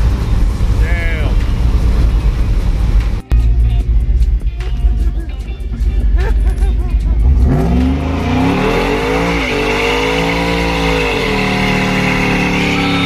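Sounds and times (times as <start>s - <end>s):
truck engine revving: 0.0s - 3.3s, 3.9s - 13.0s.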